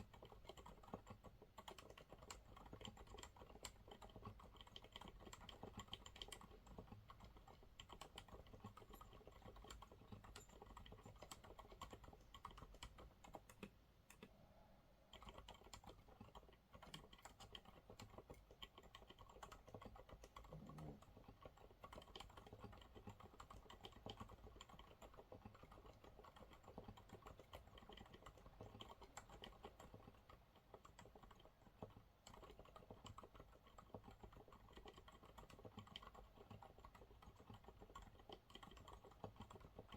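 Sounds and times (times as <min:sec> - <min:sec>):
soft keyboard typing: 0:00.0 - 0:14.4, 0:15.0 - 0:39.9.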